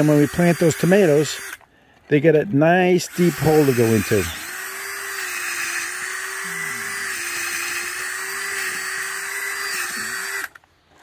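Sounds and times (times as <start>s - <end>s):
power drill boring into soil: 0.0s - 2.2s, 3.0s - 10.7s.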